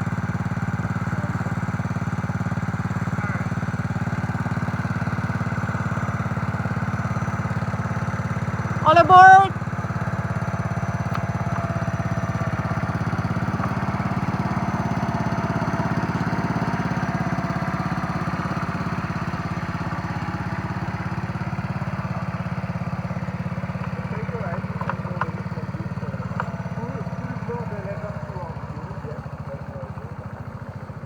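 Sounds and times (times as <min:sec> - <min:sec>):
small engine pulsing: 0:00.0 - 0:31.0.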